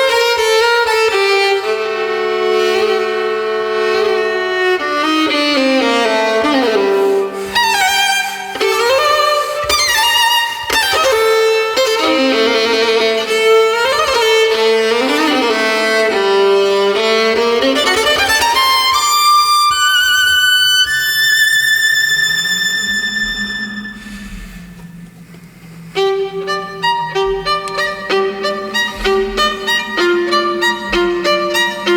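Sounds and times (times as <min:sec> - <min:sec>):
solo violin playing: 0:00.0 - 0:24.6, 0:25.9 - 0:31.9.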